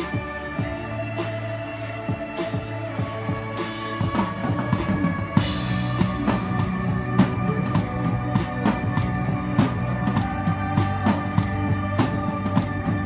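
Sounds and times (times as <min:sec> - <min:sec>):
drum kit beat: 0:00.0 - 0:13.0
live band playing: 0:00.0 - 0:13.0.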